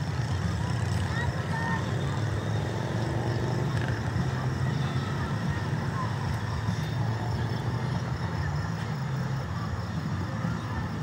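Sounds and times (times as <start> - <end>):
distant engines humming: 0.0 - 11.0.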